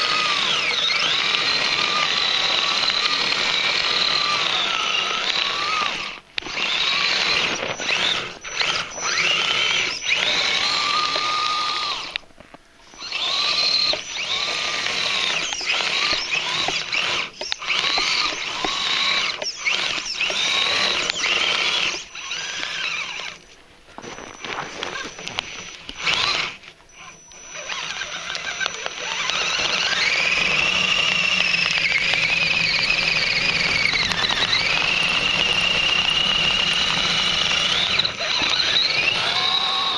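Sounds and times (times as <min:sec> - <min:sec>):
electric motor and gearbox whining: 0:00.0 - 0:39.9
tracks digging into loose dirt: 0:00.0 - 0:39.9.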